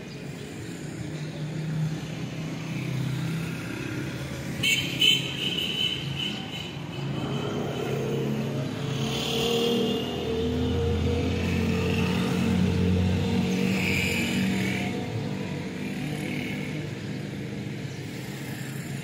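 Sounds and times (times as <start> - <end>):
road traffic engines: 0.0 - 19.0.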